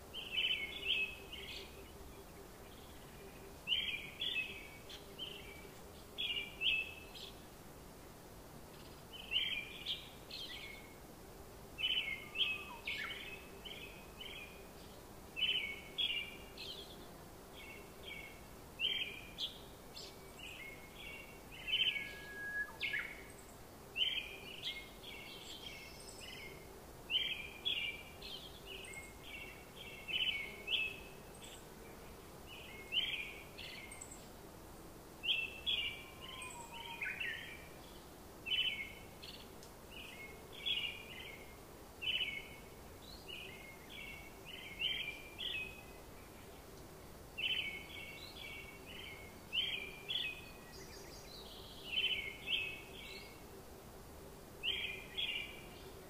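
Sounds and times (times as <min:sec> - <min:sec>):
faint steady hum: 0:00.0 - 0:56.0
bird singing chirping phrases: 0:00.2 - 0:07.4, 0:08.8 - 0:11.0, 0:11.8 - 0:34.3, 0:35.2 - 0:46.6, 0:47.4 - 0:53.4, 0:54.6 - 0:56.0.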